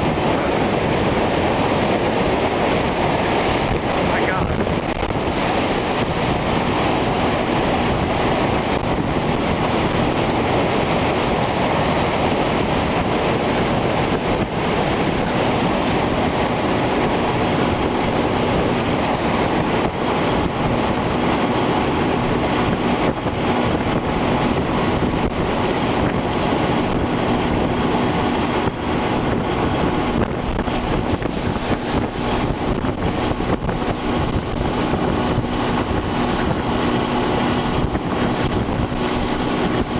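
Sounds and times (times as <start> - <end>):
roaring tornado winds: 0.0 - 39.9
wind buffeting microphone: 0.0 - 39.9.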